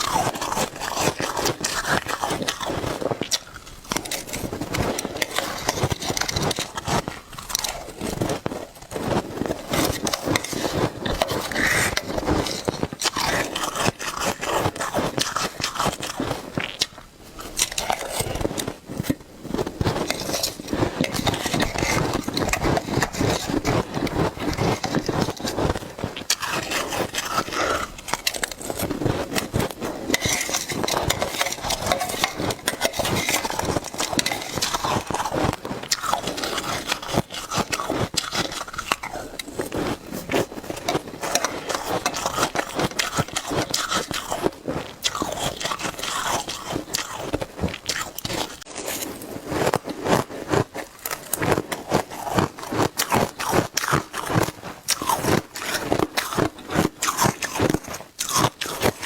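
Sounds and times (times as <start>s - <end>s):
shaved ice crunching: 0.0s - 59.0s.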